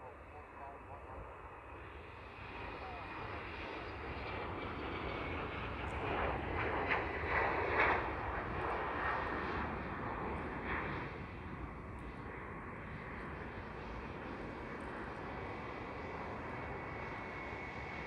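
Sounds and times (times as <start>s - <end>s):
jet rolling on runway: 0.0s - 18.0s.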